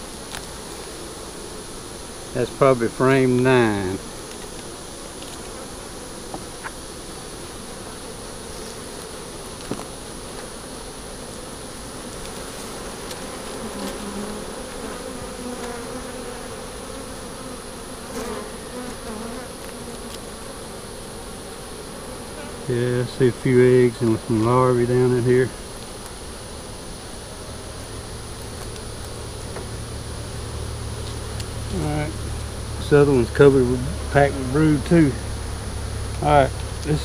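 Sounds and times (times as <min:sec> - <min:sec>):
bees buzzing: 0:00.0 - 0:37.0.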